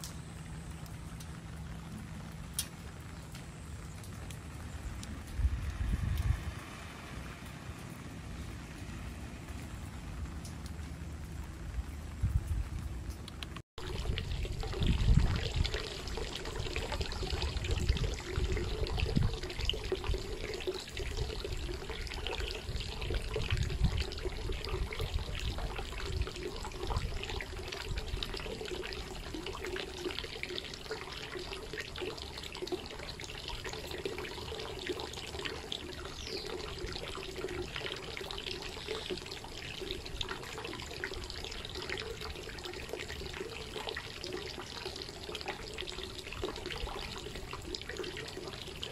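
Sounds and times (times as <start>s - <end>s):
rain falling: 0.0s - 48.9s
water trickling: 0.0s - 48.9s.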